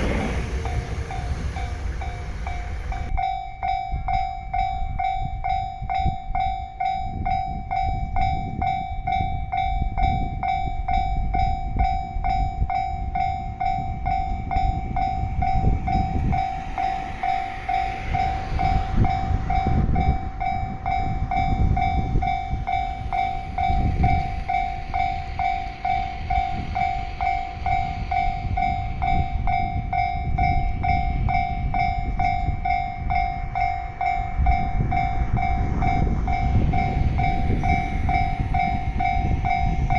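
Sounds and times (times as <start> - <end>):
electric train rumbling: 0.0 - 39.9.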